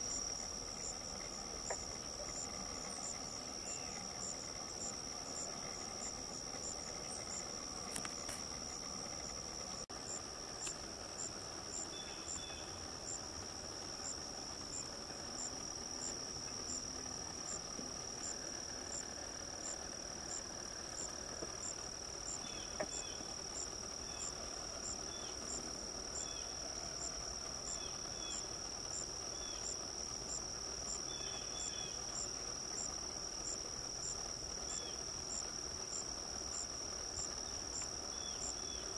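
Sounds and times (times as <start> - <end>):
high pulsing insect call: 0.0 - 38.9
insects trilling: 0.0 - 38.9.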